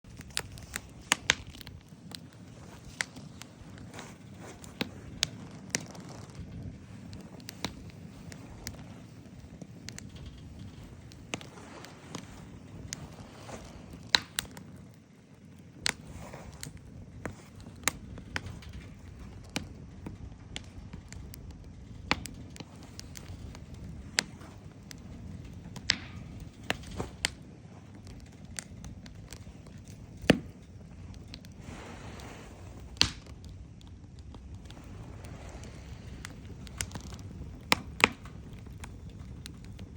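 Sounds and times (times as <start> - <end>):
low steady rumble: 0.0 - 39.9
wood fire crackling and popping: 0.0 - 39.9.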